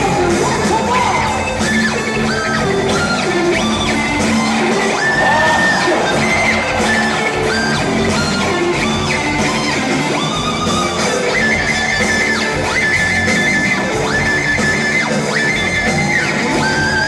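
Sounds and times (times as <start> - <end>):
distorted electric guitar sliding notes: 0.0 - 17.0
live heavy rock band: 0.0 - 17.0.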